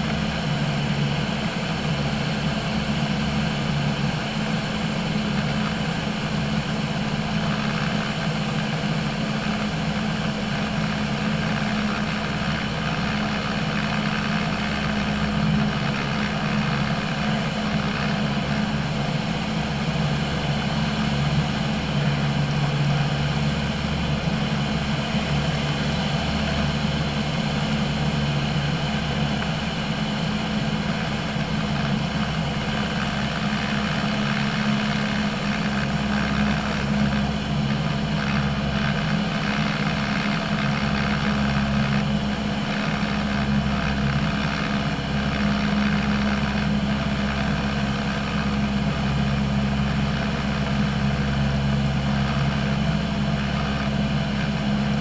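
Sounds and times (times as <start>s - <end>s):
light airplane engine droning: 0.0s - 55.0s.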